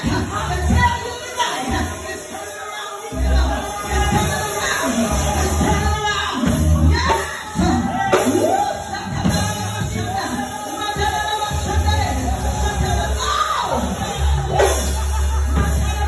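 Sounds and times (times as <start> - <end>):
live gospel band music: 0.0 - 16.0
people singing and shouting: 0.0 - 16.0.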